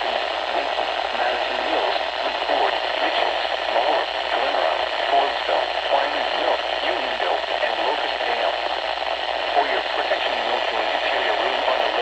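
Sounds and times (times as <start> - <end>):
muffled voice over radio: 0.0 - 12.0
static hiss: 0.0 - 12.0.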